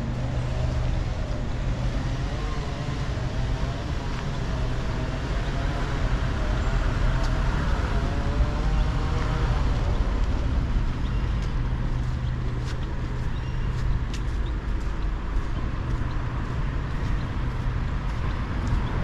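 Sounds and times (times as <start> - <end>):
vehicle engine humming: 0.0 - 19.0
vehicles passing: 0.0 - 19.0.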